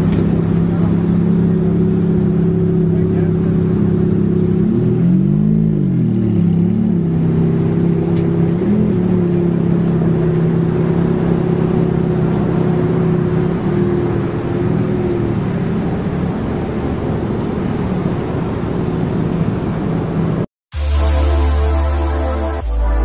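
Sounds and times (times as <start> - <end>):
car engine hum: 0.0 - 20.4
road and tyre rumble: 0.0 - 20.5.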